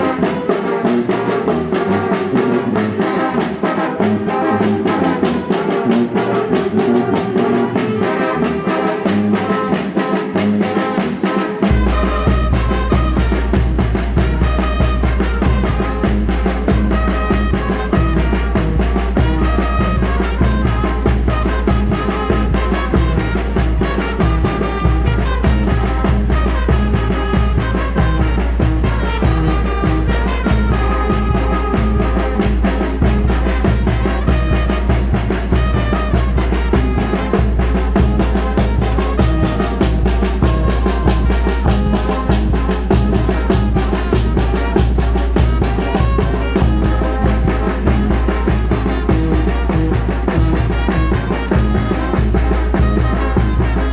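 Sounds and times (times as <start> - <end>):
brass band with percussion: 0.0 - 6.6, 7.4 - 53.9.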